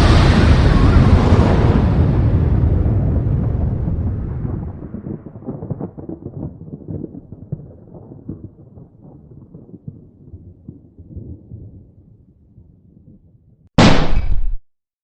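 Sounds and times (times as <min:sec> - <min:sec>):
crackling explosion rumble: 0:00.0 - 0:14.6.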